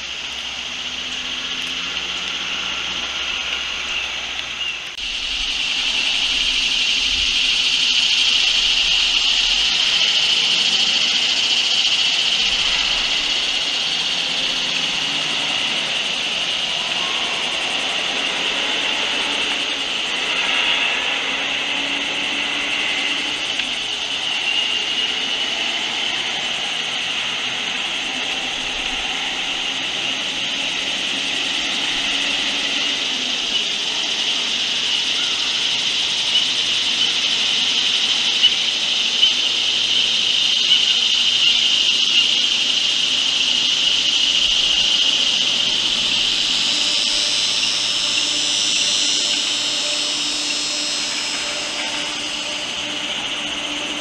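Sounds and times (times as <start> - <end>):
high-pitched drone: 0.0 - 54.0.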